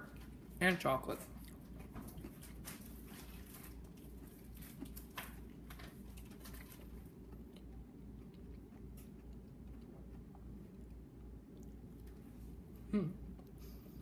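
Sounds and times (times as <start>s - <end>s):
cookie chewing crunches: 0.0s - 13.6s
low steady hum: 0.0s - 14.0s.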